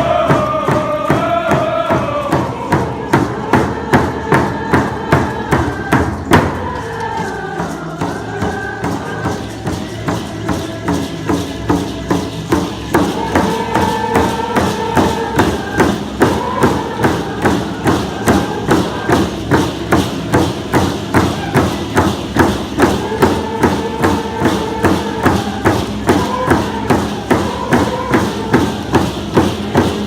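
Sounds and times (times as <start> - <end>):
group singing long notes: 0.0 - 30.0
hand drums beating: 0.0 - 30.0.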